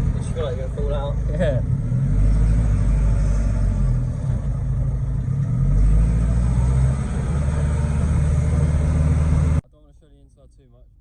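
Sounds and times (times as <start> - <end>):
truck engine revving: 0.0 - 9.6.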